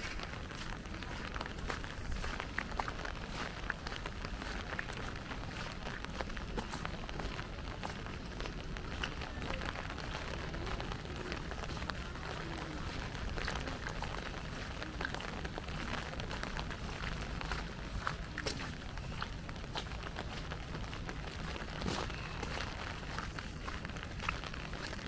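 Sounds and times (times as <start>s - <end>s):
light rain falling: 0.0s - 25.0s
raindrops ticking: 0.0s - 25.0s.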